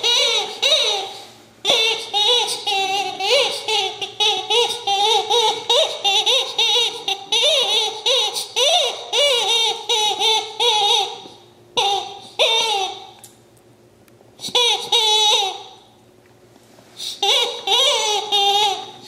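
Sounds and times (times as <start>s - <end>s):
squeaky dog toy squawking: 0.0s - 13.2s, 14.4s - 15.9s, 17.0s - 19.0s.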